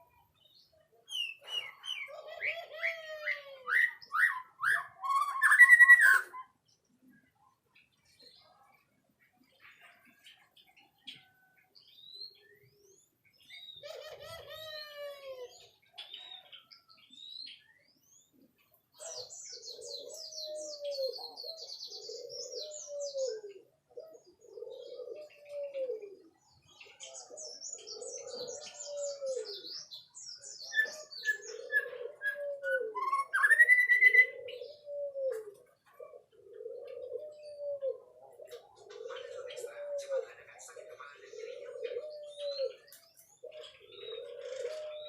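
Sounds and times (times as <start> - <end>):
bird chirps and trills: 0.0 - 40.0.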